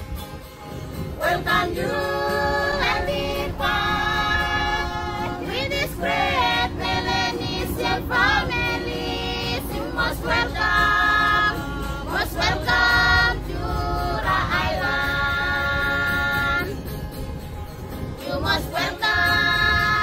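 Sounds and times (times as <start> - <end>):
group singing long notes: 1.1 - 16.8, 18.1 - 20.0.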